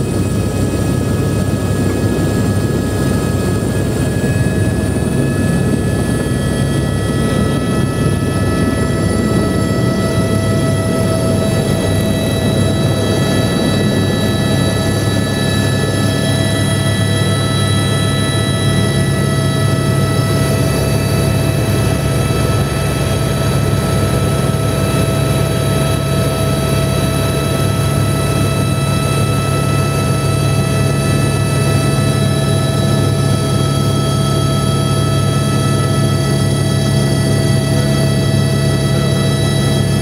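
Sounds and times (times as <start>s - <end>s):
helicopter rotor and engine rumble: 0.0s - 40.0s
turbine whine: 0.0s - 40.0s.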